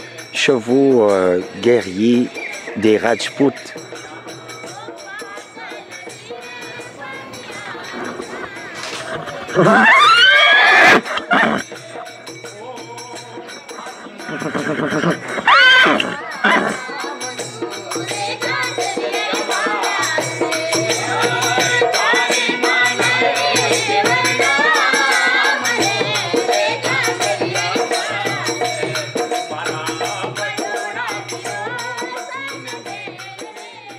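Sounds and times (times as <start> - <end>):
shaken rattle rhythm: 0.0 - 33.9.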